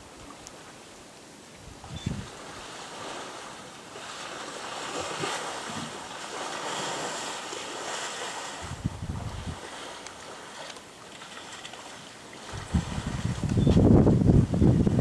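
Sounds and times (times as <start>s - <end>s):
muddy water splashing and sloshing: 2.2s - 14.5s.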